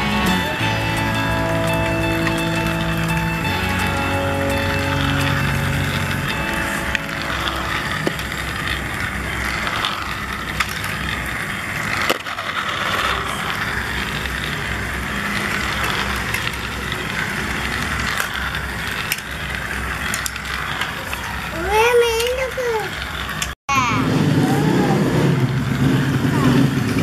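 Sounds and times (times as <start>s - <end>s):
toy train motor whirring: 0.0s - 27.0s.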